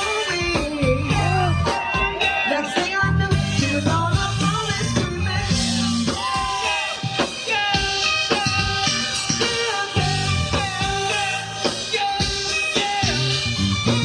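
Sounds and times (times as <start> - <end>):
band with drums: 0.0 - 14.0
person singing: 0.0 - 14.0.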